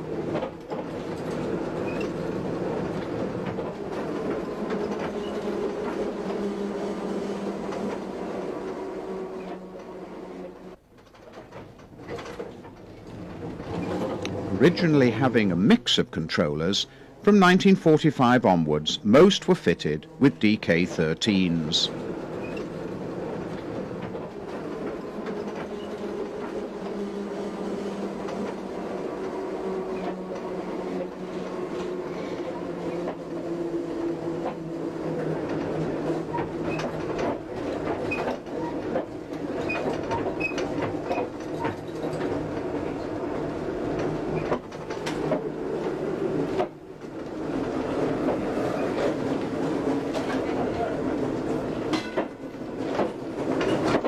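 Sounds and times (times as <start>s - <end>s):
wheels clicking on rails: 0.0s - 16.1s, 18.9s - 54.0s
tram motor hum: 0.0s - 54.0s.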